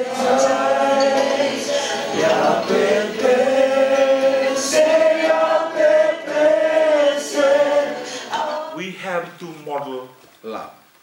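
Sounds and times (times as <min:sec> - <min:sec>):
group of people singing: 0:00.0 - 0:08.9.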